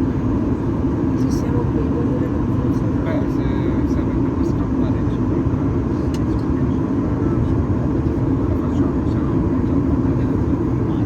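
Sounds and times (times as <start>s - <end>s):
airplane cabin roar: 0.0s - 11.0s.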